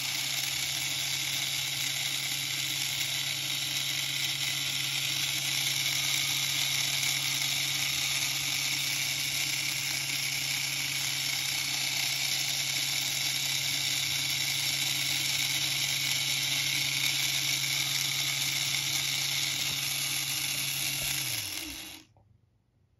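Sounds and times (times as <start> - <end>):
electric gear motor humming: 0.0 - 22.1.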